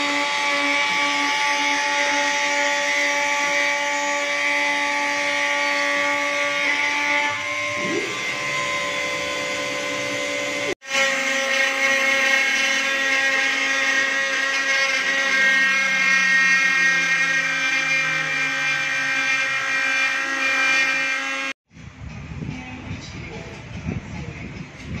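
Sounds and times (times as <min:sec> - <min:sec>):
router spindle whining: 0:00.0 - 0:21.6.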